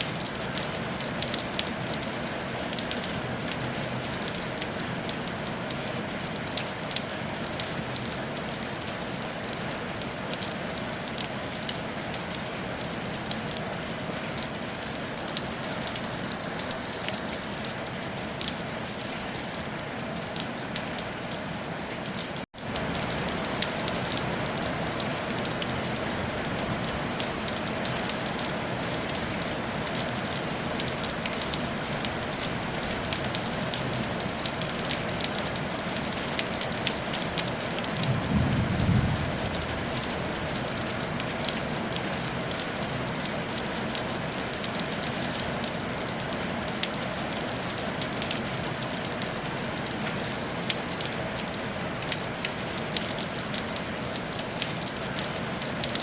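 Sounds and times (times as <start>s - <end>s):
rain on a tile roof: 0.0s - 56.0s.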